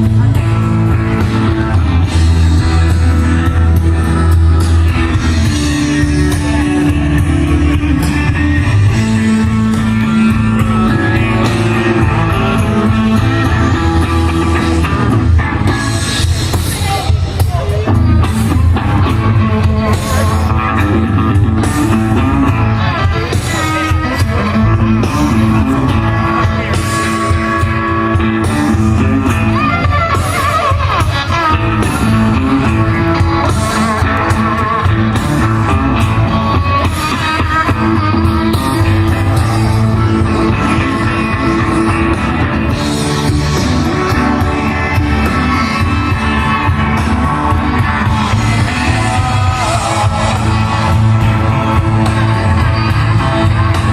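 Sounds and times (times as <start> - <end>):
blues band playing live: 0.0 - 53.9.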